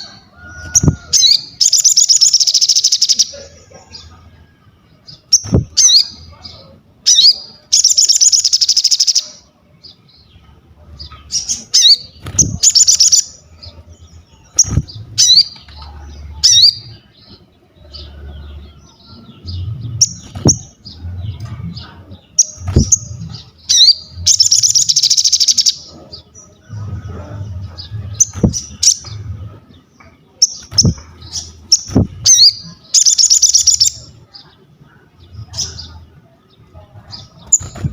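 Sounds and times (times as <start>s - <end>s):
bird singing rapid trills: 0.0s - 3.4s, 5.0s - 10.4s, 11.0s - 34.5s, 35.2s - 37.9s.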